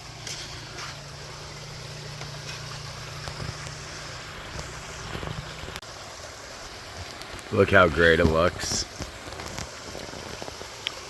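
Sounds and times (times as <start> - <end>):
waterfall splashing into pond: 0.0 - 11.0.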